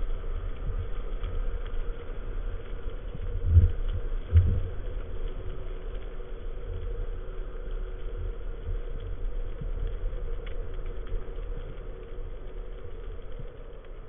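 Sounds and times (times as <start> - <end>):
faint steady hum: 0.0 - 14.0
light crackling: 0.0 - 14.0
underwater rumble of water: 0.0 - 14.0.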